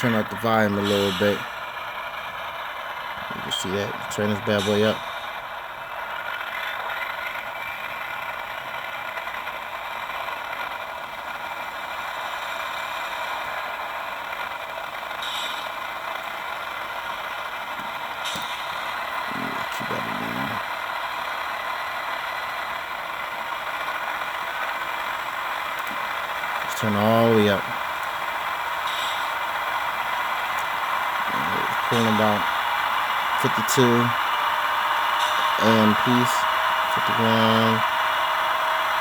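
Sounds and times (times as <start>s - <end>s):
diesel engine sound from small speaker: 0.0s - 39.0s.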